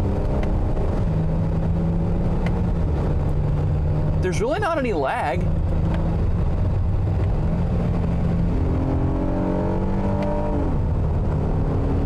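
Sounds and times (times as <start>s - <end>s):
car engine revving and upshifting: 0.0s - 4.8s, 5.4s - 12.0s
road rumble: 0.0s - 12.0s.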